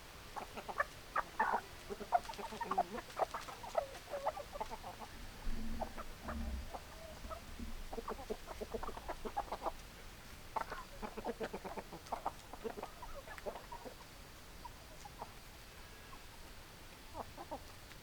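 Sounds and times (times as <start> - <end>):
hens clucking: 0.3 - 15.4, 17.1 - 17.8.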